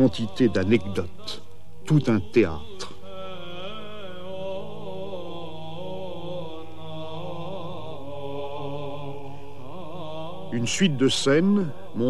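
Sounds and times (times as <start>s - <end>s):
slow sung chant: 0.0s - 12.0s.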